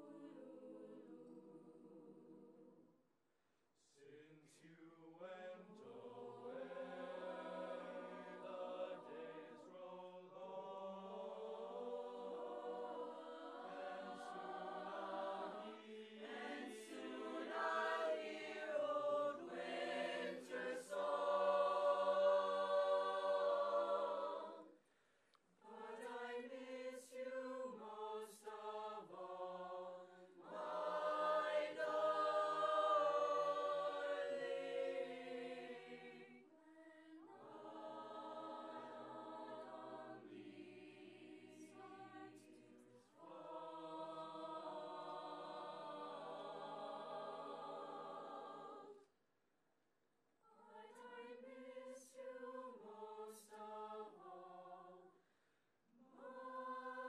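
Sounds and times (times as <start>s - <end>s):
mixed choir singing: 0.0s - 2.9s, 4.7s - 24.8s, 25.6s - 49.0s, 50.5s - 55.2s, 56.0s - 57.0s.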